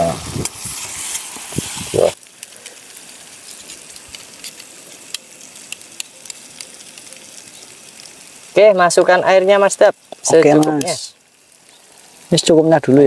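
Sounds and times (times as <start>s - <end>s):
stirring strokes in pan: 0.0s - 12.4s
spice paste sizzling in oil: 0.0s - 13.0s.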